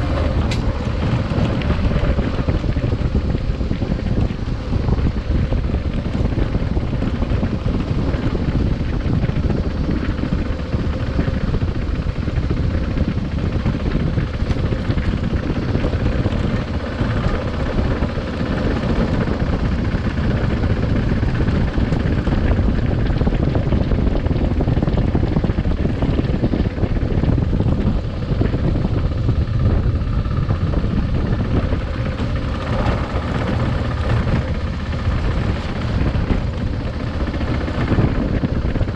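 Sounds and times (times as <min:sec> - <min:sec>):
motorcycle engine running: 0:00.0 - 0:38.9
road noise: 0:00.0 - 0:38.9
wind rushing at microphone: 0:00.0 - 0:38.9.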